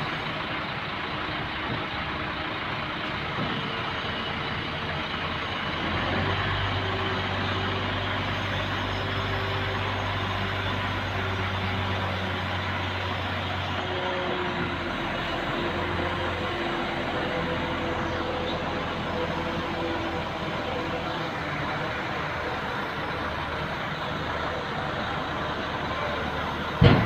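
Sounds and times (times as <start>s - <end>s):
heavy vehicle engine droning: 0.0s - 27.0s.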